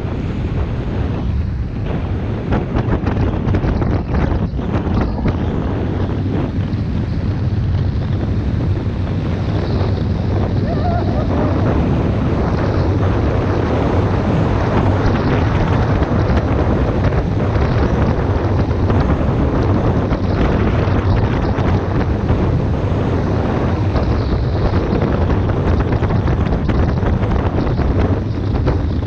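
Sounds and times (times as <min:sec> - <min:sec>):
low vehicle rumble: 0:00.0 - 0:29.0
wind buffeting microphone: 0:00.0 - 0:29.0.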